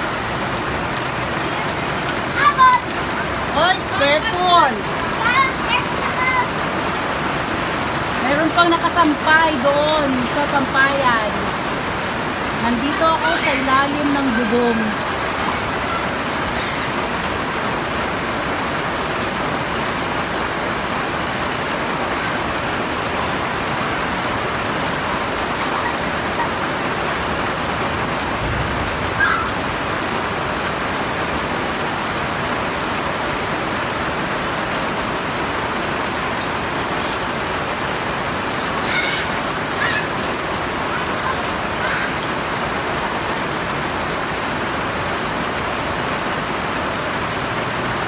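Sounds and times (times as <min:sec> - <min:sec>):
rain on a roof: 0:00.0 - 0:48.0.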